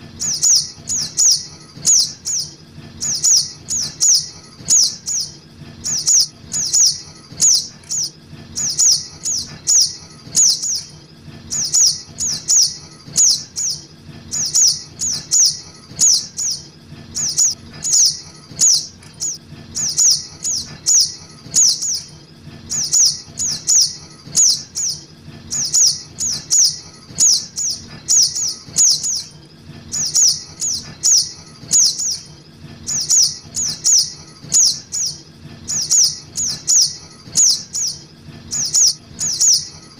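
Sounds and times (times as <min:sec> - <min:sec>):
high downward-sliding bird chirps: 0:00.0 - 0:39.9.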